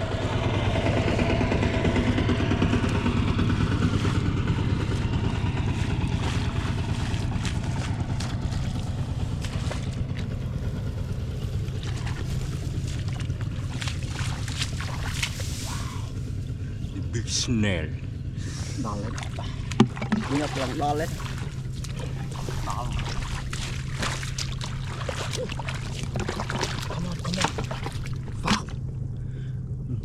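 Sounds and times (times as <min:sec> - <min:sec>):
small engine running steadily: 0:00.0 - 0:30.0.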